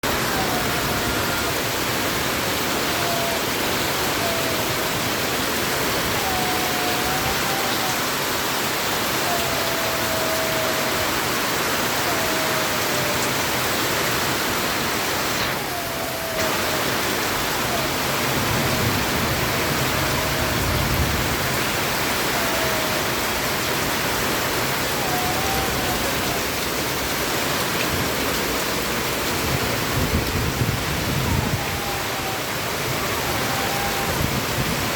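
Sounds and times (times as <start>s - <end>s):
heavy rainfall: 0.0s - 34.9s.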